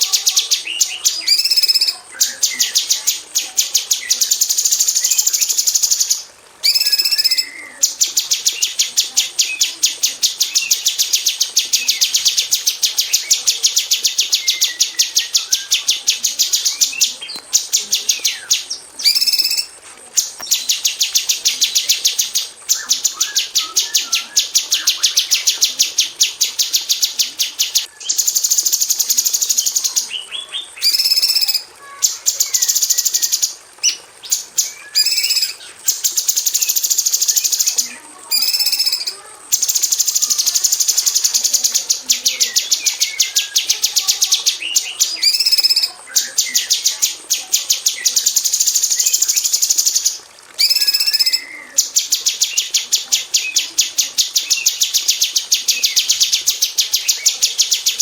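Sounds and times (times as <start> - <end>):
bird singing sharp high chips: 0.0 - 25.5, 26.6 - 52.7.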